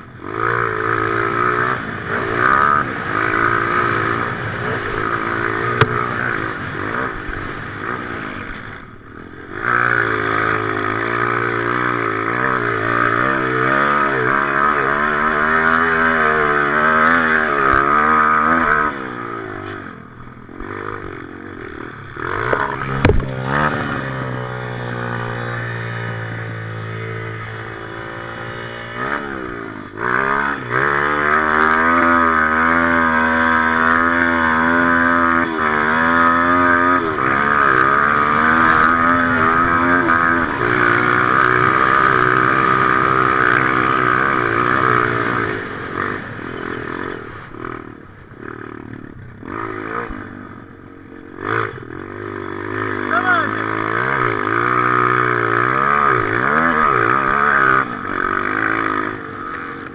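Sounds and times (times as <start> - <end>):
motorcycle engine revving hard: 0.0 - 59.9.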